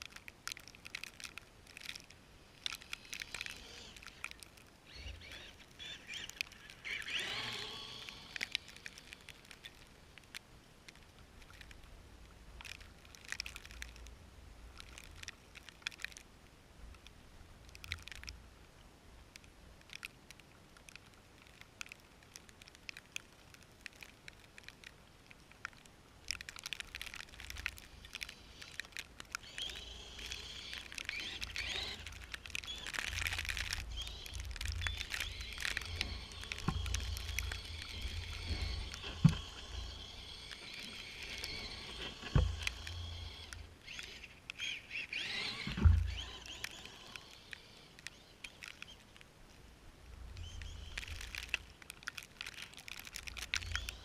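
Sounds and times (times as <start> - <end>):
snow crackling and crunching: 0.0 - 16.4, 19.4 - 54.0.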